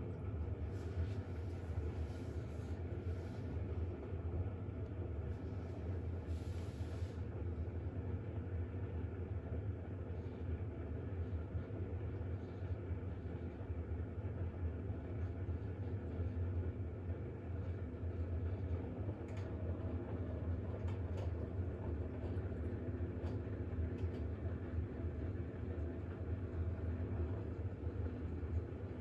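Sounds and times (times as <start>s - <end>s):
washing machine spin hum: 0.0s - 29.0s.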